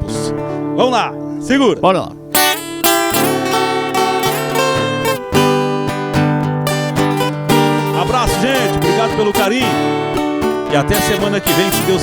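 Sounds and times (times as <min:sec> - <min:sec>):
acoustic guitars strumming chords: 0:00.0 - 0:12.0.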